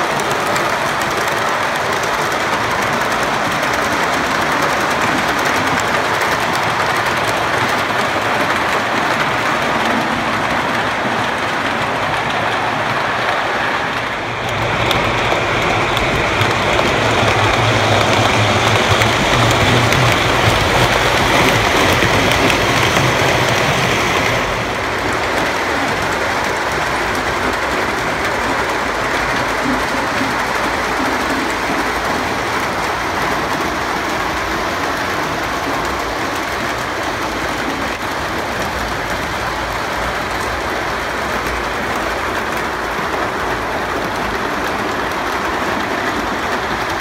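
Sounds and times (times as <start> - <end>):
model train rattling on track: 0.0 - 47.0.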